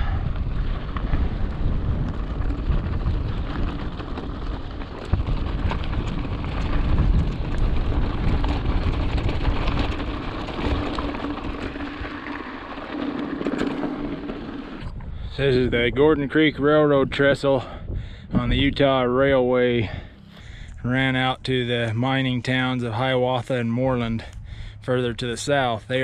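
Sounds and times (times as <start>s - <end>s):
bicycle tyres rolling: 0.0s - 26.0s
wind buffeting microphone: 0.0s - 26.0s.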